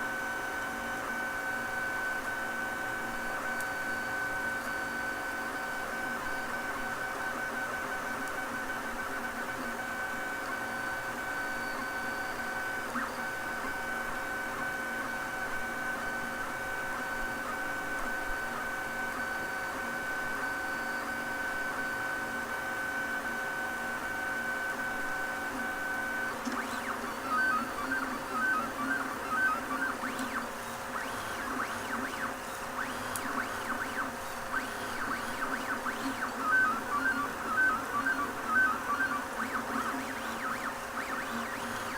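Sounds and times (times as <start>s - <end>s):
printer stepper motors whining: 0.0s - 41.9s.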